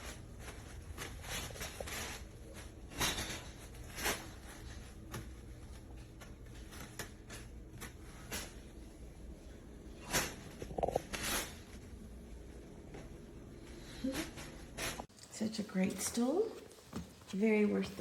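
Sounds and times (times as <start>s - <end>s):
rustling: 0.0s - 15.2s.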